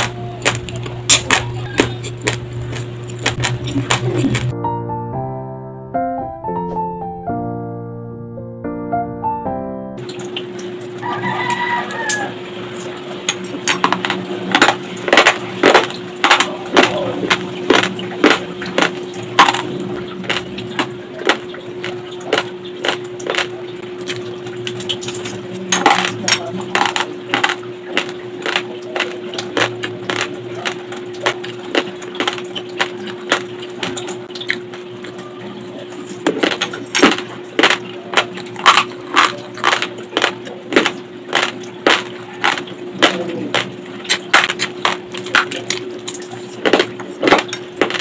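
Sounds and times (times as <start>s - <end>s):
crunching raw rice being chewed: 0.0s - 4.5s, 10.0s - 48.0s.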